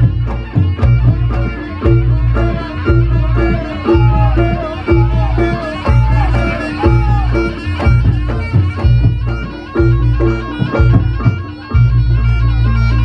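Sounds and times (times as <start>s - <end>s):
drum strokes: 0.0s - 12.4s
reedy shawm melody: 0.0s - 13.0s.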